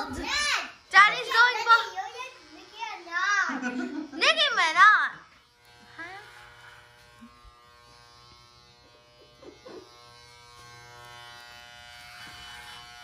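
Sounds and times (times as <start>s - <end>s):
electric shaver buzzing: 0.0s - 13.0s.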